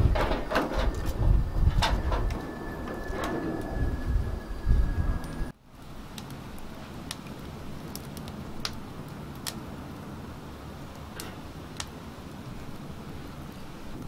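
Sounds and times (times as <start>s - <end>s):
fire low rumble: 0.0s - 14.0s
wood fire crackling and popping: 0.0s - 14.0s.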